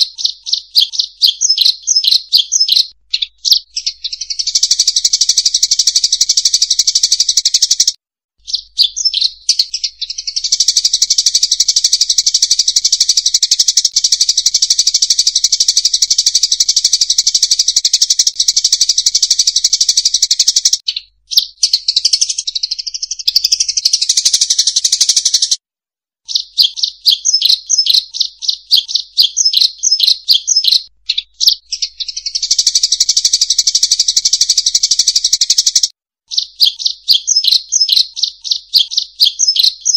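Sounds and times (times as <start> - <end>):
flock of birds twittering: 0.0 - 7.9, 8.5 - 20.8, 26.3 - 39.9
quick bird chirps: 0.0 - 25.6, 26.2 - 39.9.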